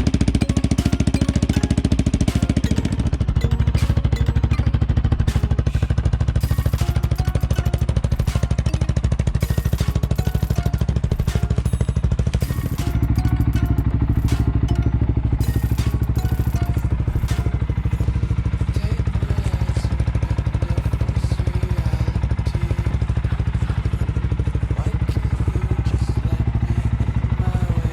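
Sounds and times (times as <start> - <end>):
atv engine idling: 0.0 - 27.9.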